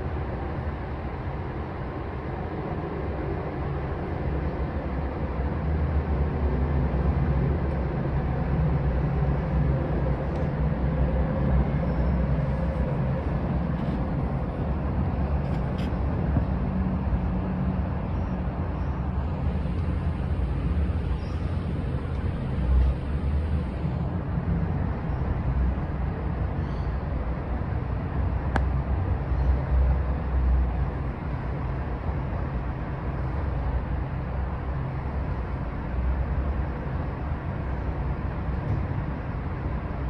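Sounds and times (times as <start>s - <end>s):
low rumbling noise: 0.0s - 40.0s.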